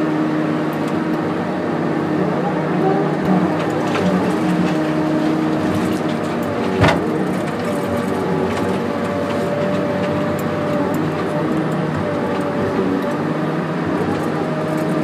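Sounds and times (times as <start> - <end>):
heavy machine running: 0.0 - 15.0.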